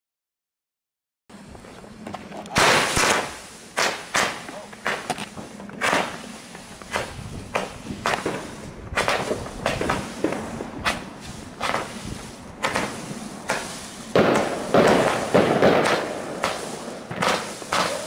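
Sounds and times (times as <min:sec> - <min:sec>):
firework launch thumps: 0:02.5 - 0:18.0.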